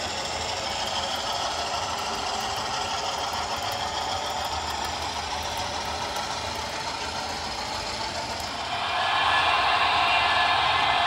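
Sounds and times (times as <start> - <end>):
model train wheels rolling on rails: 0.0 - 11.0.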